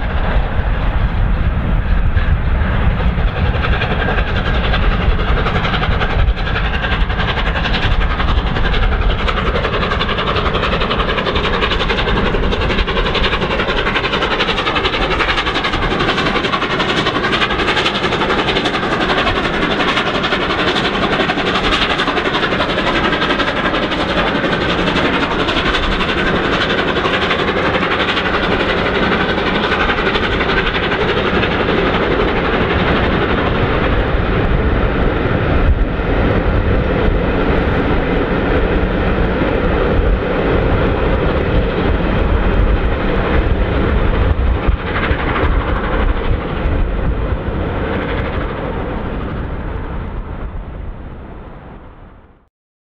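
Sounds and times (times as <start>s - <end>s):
steam train running at speed: 0.0s - 52.2s.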